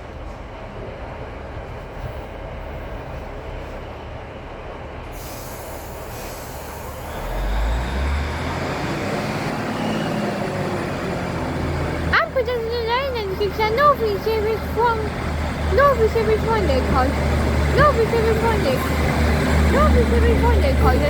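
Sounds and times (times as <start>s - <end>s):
train pulling out: 0.0s - 21.0s.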